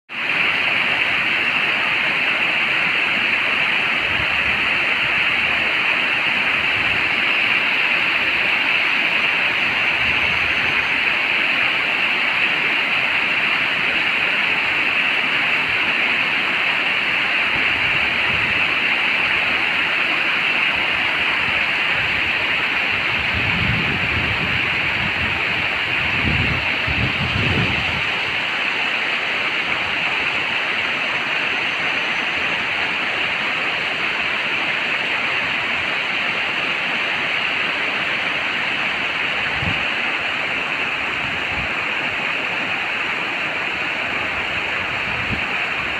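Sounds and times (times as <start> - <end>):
river water rushing: 0.1 - 45.9.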